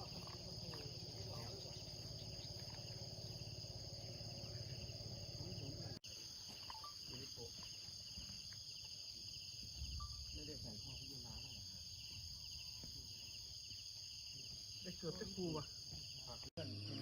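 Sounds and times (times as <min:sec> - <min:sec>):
crickets and insects chirring: 0:00.0 - 0:17.0.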